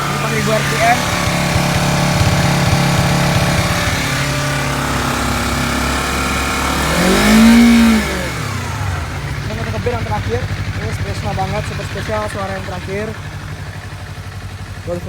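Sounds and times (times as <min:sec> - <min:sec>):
motorcycle engine running and revving: 0:00.0 - 0:15.0.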